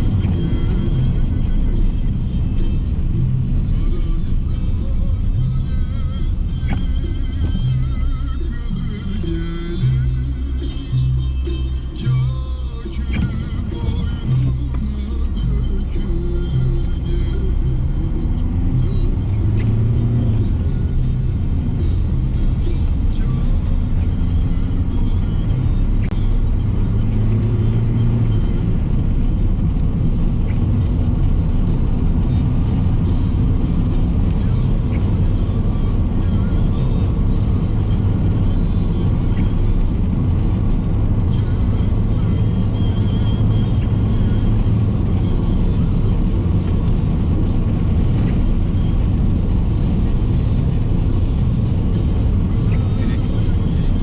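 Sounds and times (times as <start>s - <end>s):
car engine and road rumble: 0.0s - 54.0s
music from car radio: 0.0s - 54.0s.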